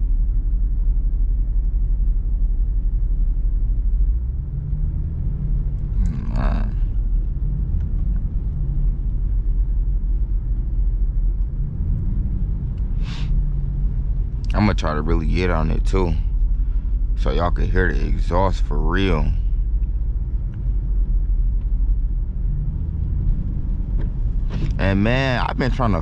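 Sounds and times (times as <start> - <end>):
low exhaust drone: 0.0 - 26.0
road rumble: 0.0 - 26.0.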